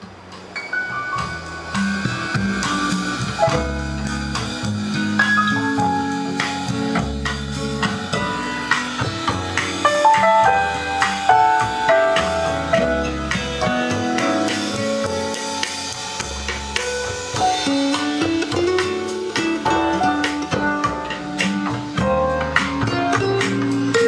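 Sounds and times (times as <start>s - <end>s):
song with drums on loudspeakers: 0.1s - 24.0s.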